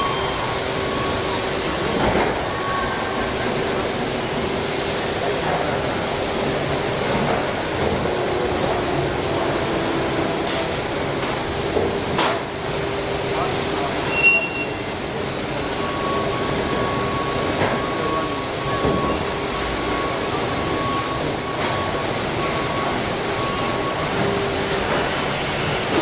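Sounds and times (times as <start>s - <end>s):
machinery hiss and rumble: 0.0s - 26.0s.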